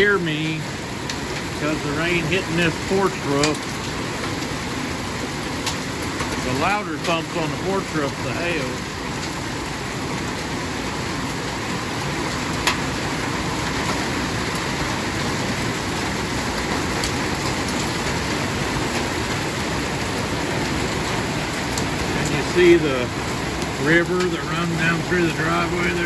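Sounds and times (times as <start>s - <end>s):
hailstones knocking: 0.0s - 26.0s
heavy rain drumming on a roof: 0.0s - 26.0s.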